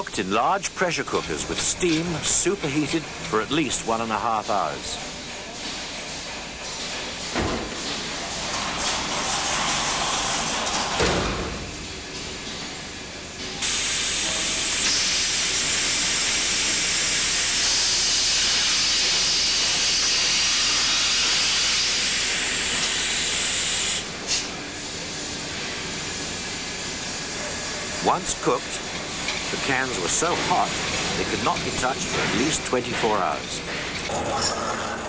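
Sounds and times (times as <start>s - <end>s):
loud steady steam hiss: 0.0s - 12.1s, 12.8s - 34.1s.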